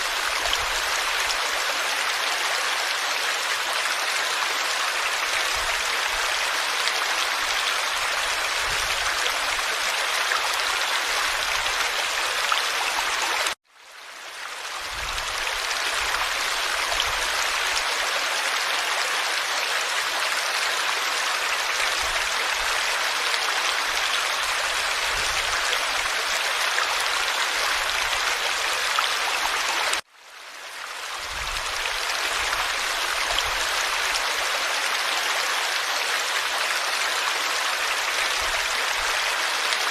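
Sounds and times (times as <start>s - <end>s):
stream babbling water: 0.0s - 39.9s.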